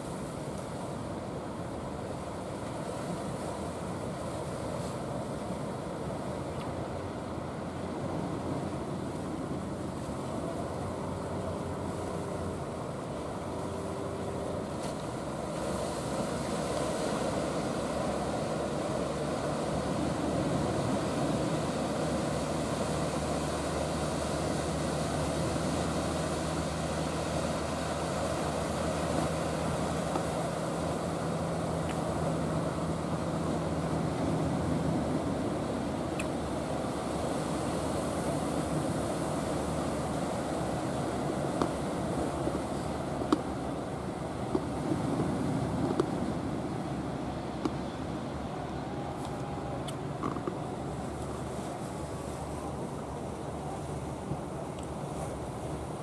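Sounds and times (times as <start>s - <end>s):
boat engine droning: 0.0s - 56.0s
water and surf washing: 0.0s - 56.0s.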